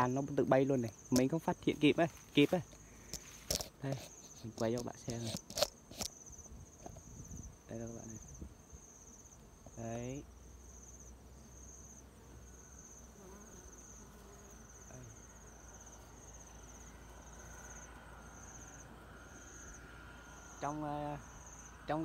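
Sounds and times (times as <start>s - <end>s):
insect chirping in pulsed trills: 0.0s - 22.0s.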